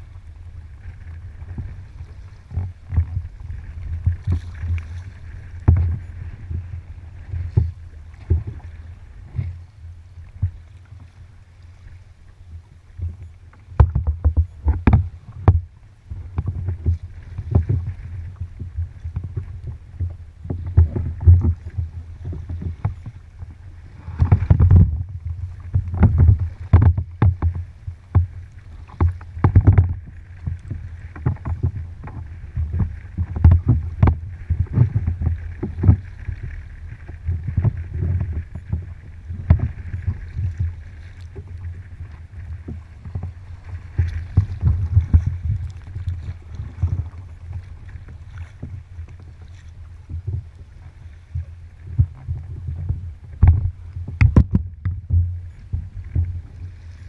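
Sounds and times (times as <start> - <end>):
water knocking and splashing on hull: 0.0 - 57.0.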